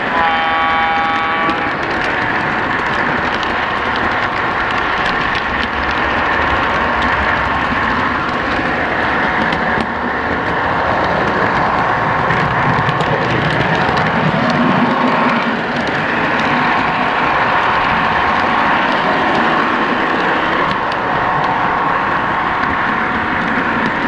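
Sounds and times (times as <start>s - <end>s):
wheels clicking over rail joints: 0.0s - 24.0s.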